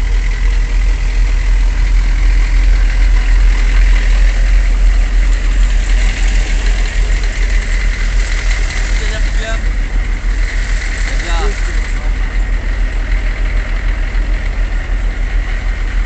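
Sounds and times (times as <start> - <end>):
armoured vehicle engine idling: 0.0 - 16.0.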